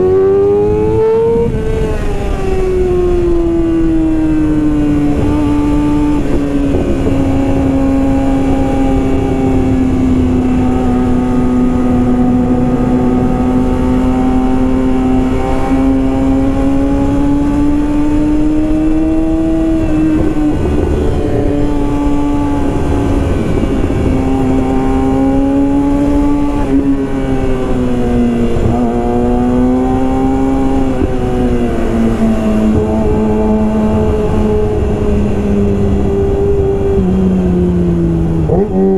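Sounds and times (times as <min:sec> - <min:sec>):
motorcycle engine revving high: 0:00.0 - 0:38.9.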